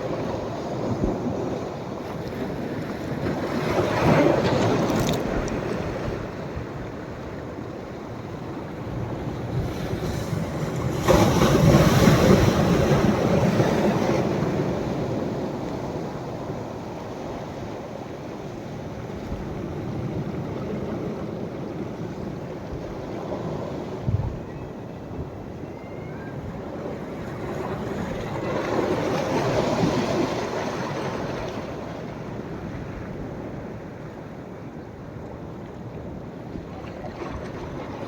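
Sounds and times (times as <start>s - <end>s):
sea waves breaking on shore: 0.0s - 38.0s.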